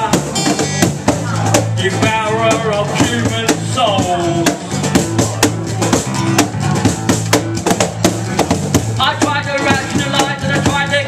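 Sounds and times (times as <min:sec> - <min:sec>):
bass: 0:00.0 - 0:11.0
cajon beat: 0:00.0 - 0:11.0
strummed acoustic guitar: 0:00.0 - 0:11.0.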